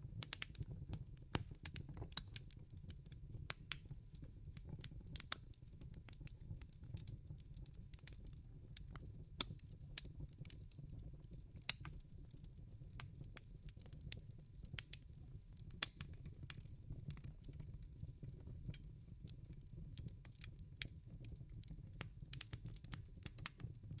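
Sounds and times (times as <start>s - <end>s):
fire crackling and popping: 0.0s - 24.0s
low fire rumble: 0.0s - 24.0s.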